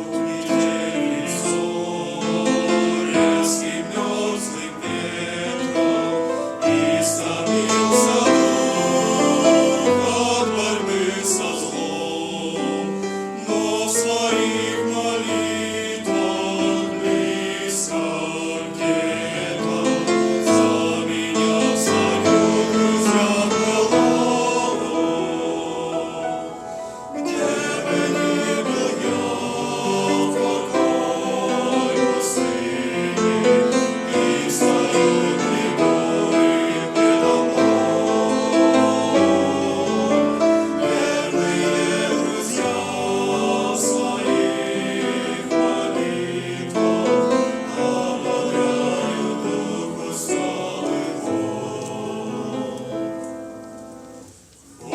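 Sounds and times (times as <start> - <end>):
choir singing with accompaniment: 0.0 - 54.9.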